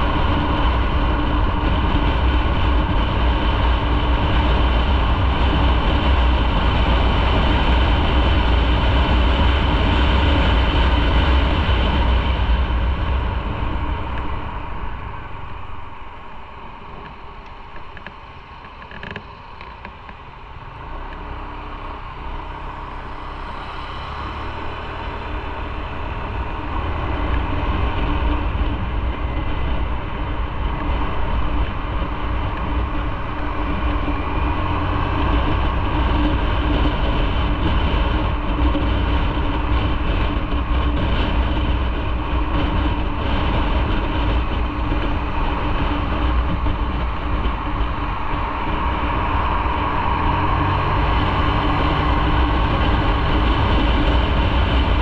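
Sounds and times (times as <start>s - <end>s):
motorcycle engine rumble: 0.0s - 55.0s
wind and road noise: 0.0s - 55.0s.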